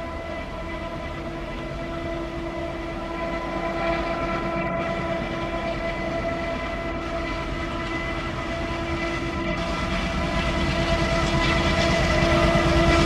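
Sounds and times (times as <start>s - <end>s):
diesel locomotive engine chugging: 0.0s - 13.0s.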